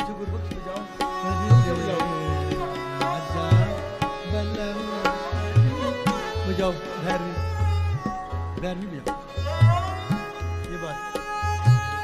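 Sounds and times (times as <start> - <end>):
melodic accompaniment: 0.0 - 12.0
tabla playing: 0.0 - 12.0.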